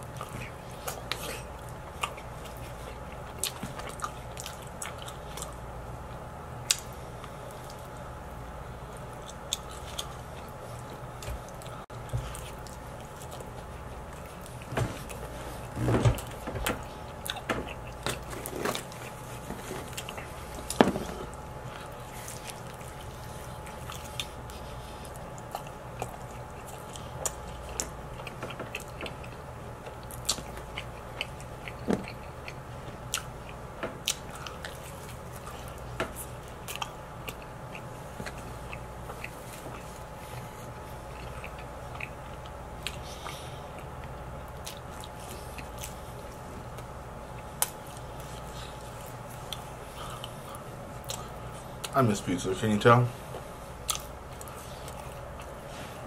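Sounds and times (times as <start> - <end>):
person chewing pizza: 0.0 - 56.0.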